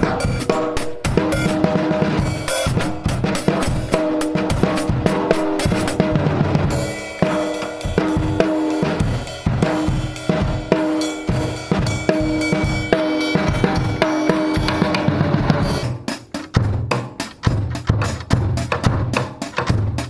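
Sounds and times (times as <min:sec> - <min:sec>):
cymbal: 0:00.0 - 0:16.2
box drum kit beat: 0:00.0 - 0:20.0.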